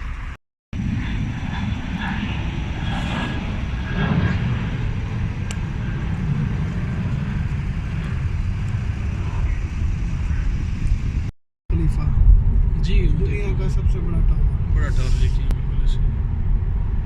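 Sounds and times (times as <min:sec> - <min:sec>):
airliner engines and cabin rumble: 0:00.0 - 0:17.0.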